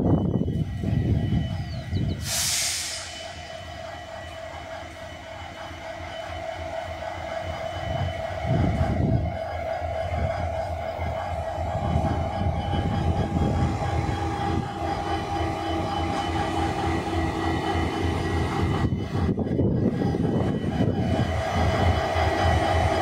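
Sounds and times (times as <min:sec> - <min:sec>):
constant whine: 0:00.0 - 0:02.2, 0:02.8 - 0:23.0
locomotive engine idling: 0:00.8 - 0:23.0.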